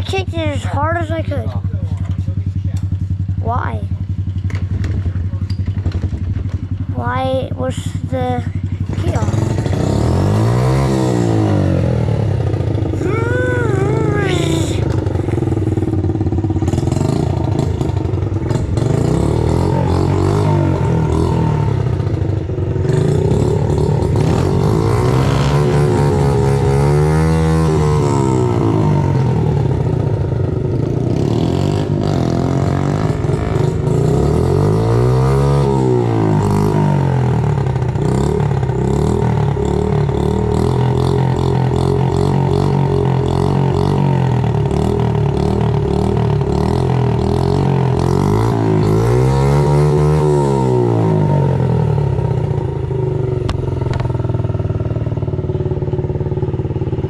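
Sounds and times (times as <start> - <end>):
dirt bike engine revving: 4.4 - 52.5.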